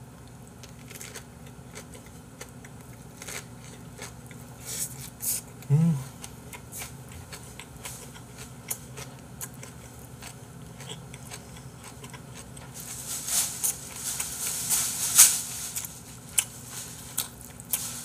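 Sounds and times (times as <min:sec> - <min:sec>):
chewing with full mouth: 0:00.2 - 0:12.8, 0:15.8 - 0:17.9.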